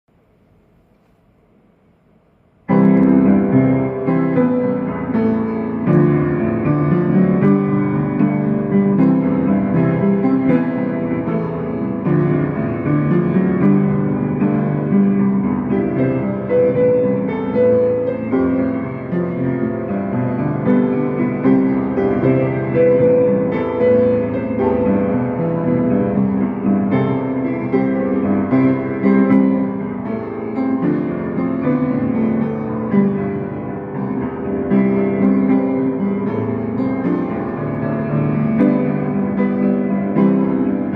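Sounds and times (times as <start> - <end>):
piano playing pop song: 2.7 - 40.9.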